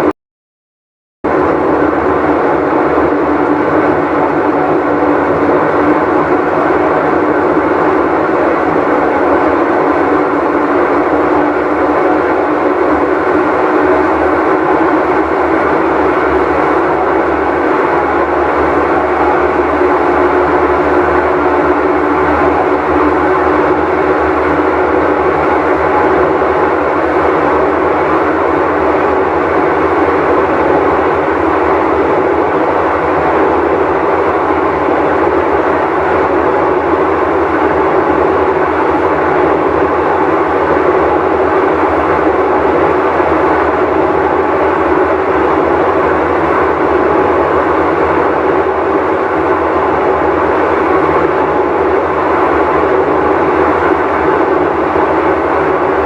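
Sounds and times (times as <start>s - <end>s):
washing machine droning: 1.2s - 56.0s.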